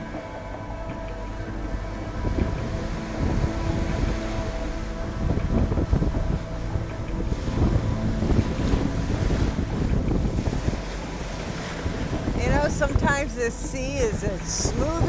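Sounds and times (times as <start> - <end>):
big waves breaking on shore: 0.0 - 15.0
wind buffeting microphone: 0.0 - 15.0.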